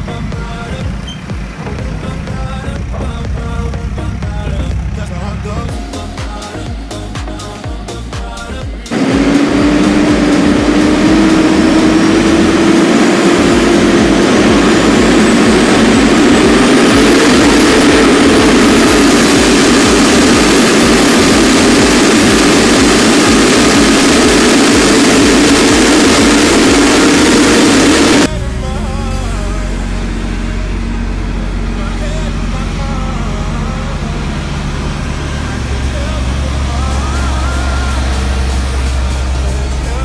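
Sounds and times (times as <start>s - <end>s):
tractor diesel engine running: 0.0s - 40.0s
faint high whine: 5.4s - 40.0s.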